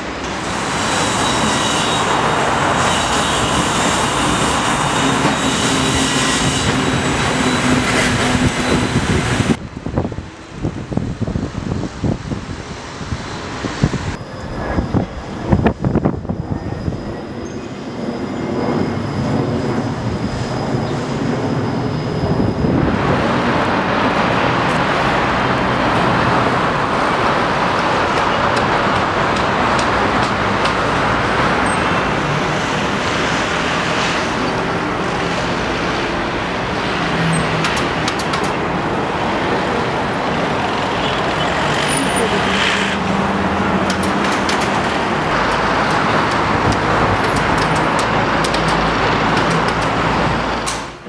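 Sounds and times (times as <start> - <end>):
road traffic noise: 0.0 - 51.0.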